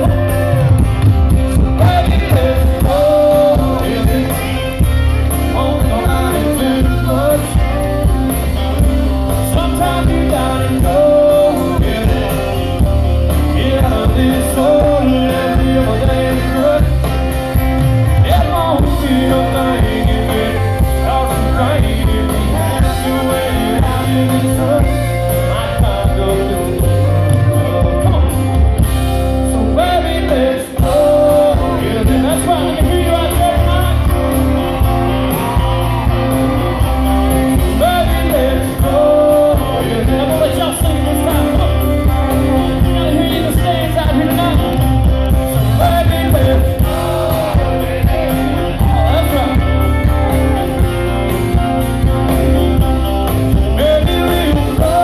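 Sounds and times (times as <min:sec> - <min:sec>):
live country band playing: 0:00.0 - 0:55.0
man singing: 0:00.0 - 0:55.0.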